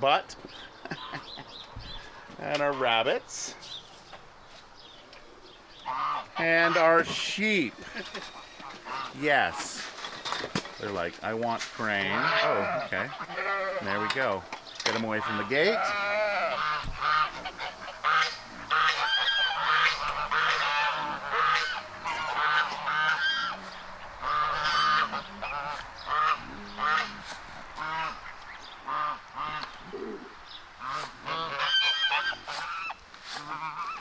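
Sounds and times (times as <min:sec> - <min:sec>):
geese honking: 0:00.7 - 0:01.5, 0:05.7 - 0:10.0, 0:10.8 - 0:34.0.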